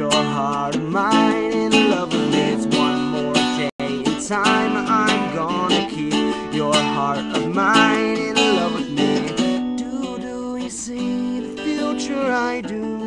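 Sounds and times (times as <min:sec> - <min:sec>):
man singing: 0:00.0 - 0:13.0
strummed acoustic guitar: 0:00.0 - 0:13.0.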